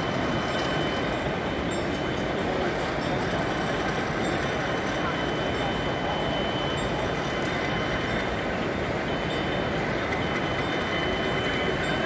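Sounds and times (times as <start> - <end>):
model train running rumble: 0.0 - 12.0
thin high tone: 0.0 - 12.0.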